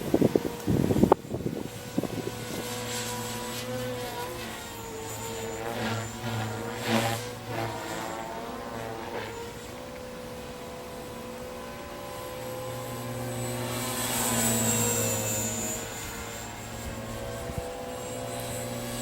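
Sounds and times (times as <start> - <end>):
model helicopter flying: 0.0 - 19.0.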